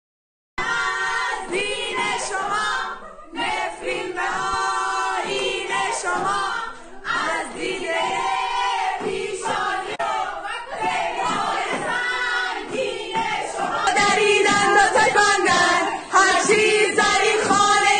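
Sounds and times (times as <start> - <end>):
girls singing together: 0.6 - 17.9.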